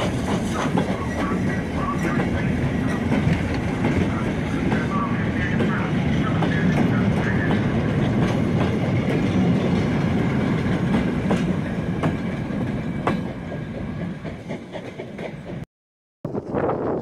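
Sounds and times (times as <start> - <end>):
train wheels rumbling and clicking: 0.0 - 15.6.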